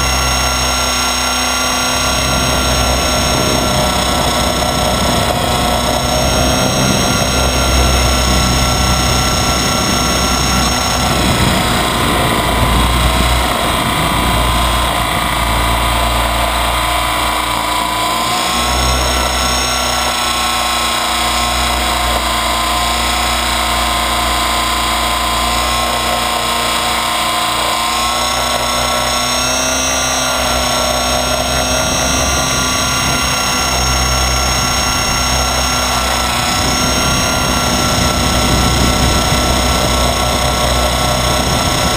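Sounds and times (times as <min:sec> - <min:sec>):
electric motor whine: 0:00.0 - 0:41.9
low rumble of wind: 0:00.0 - 0:41.9
rotor blades droning: 0:00.0 - 0:41.9.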